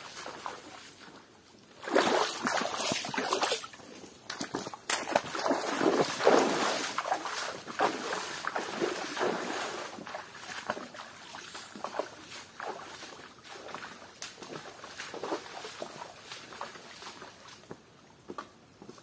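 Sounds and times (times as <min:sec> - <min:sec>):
water splashing and sloshing: 0:00.0 - 0:17.8.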